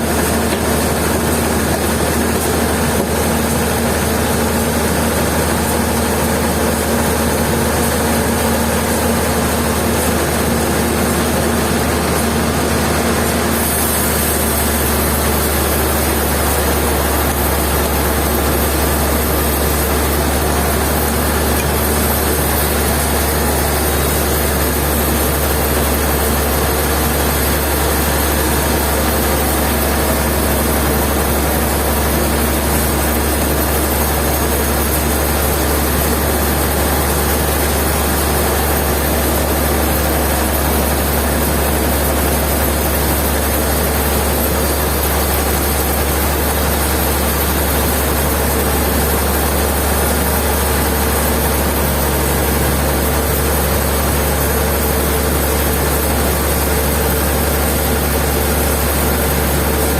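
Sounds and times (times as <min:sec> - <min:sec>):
heavy machinery humming: 0:00.0 - 0:59.9.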